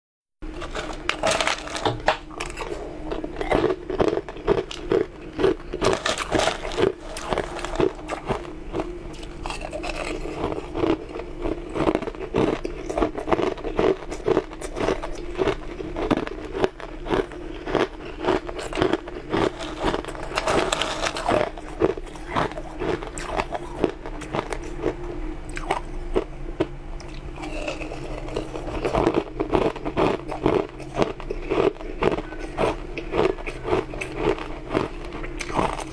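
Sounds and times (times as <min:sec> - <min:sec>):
ice crunching while chewed: 0:00.5 - 0:35.9.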